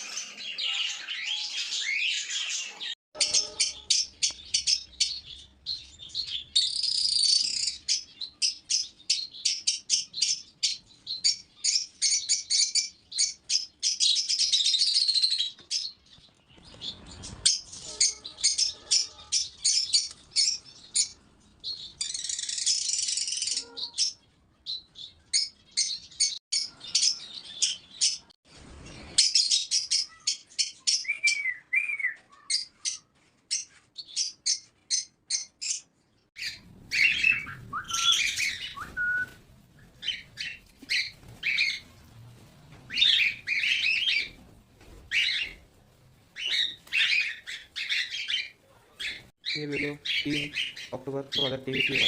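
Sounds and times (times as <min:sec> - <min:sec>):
parrots chirping: 0:00.0 - 0:16.0, 0:16.8 - 0:28.3, 0:29.1 - 0:41.9, 0:42.9 - 0:44.4, 0:45.1 - 0:45.6, 0:46.4 - 0:52.0.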